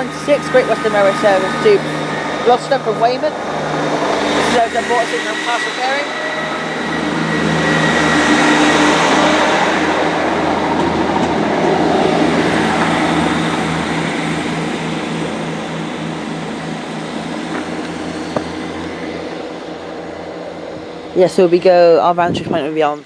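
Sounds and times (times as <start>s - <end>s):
diesel train engine drone: 0.0s - 23.0s.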